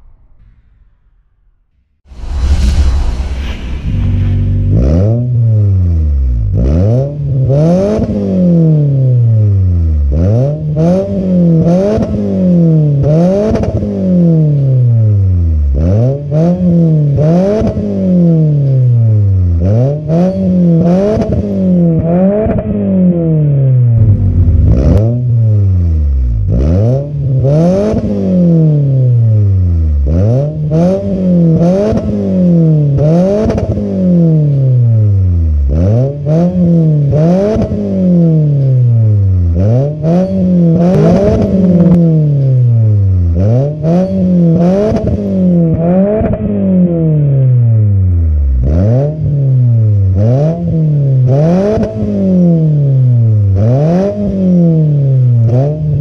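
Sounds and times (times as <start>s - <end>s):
car engine revving: 2.2s - 14.4s, 19.6s - 34.4s, 35.6s - 46.5s, 48.6s - 56.0s.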